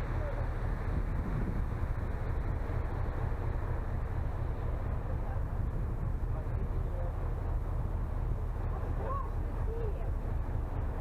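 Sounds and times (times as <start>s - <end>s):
ferry engine rumble: 0.0s - 11.0s.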